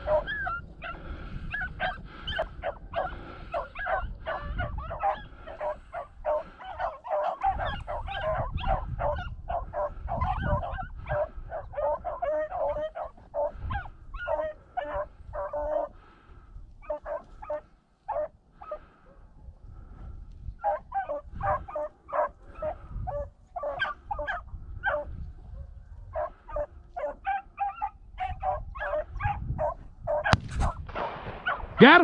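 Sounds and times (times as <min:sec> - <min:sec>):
hounds baying: 0:00.0 - 0:30.4, 0:31.4 - 0:32.0.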